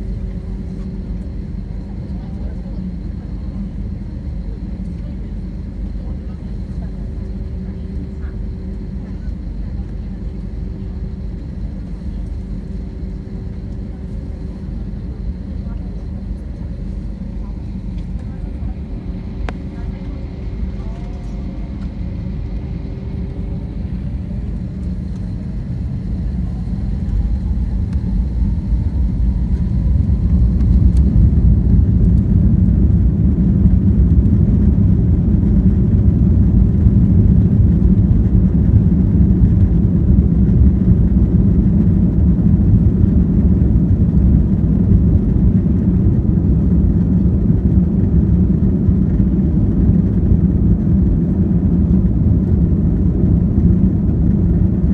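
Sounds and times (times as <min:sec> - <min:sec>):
jet engine low rumble: 0:00.0 - 0:54.9
jet engine whine: 0:00.0 - 0:54.9.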